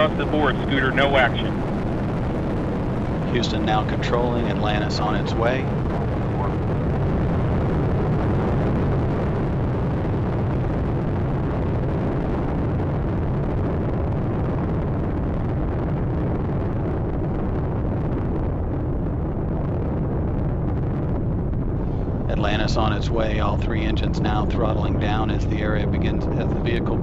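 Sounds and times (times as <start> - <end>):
rocket engines rumbling: 0.0 - 27.0.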